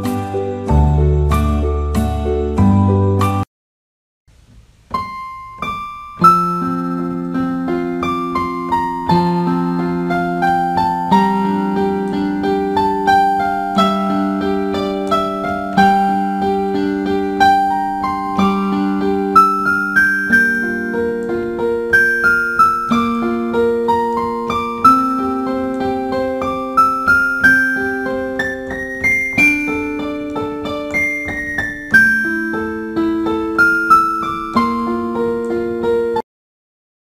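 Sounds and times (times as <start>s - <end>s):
slow piano music: 0.0s - 3.5s, 4.6s - 36.2s.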